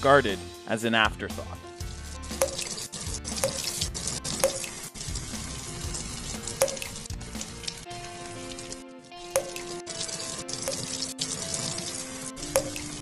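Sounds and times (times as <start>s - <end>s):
background music with strikes: 0.0s - 13.0s.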